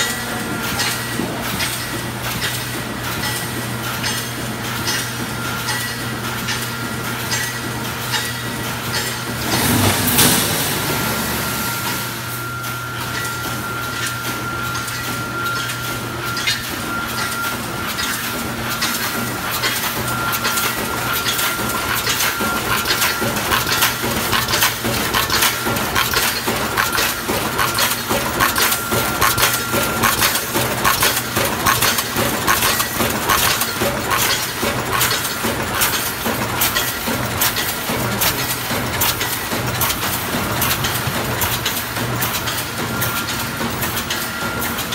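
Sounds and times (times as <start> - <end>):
metallic clatter of welding machine: 0.0 - 10.8, 11.8 - 44.9
machine hum with high whine: 0.0 - 44.9.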